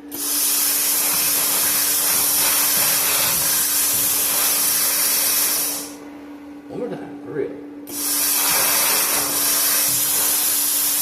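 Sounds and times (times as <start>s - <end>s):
plasma cutter hissing: 0.1s - 6.0s, 7.9s - 11.0s.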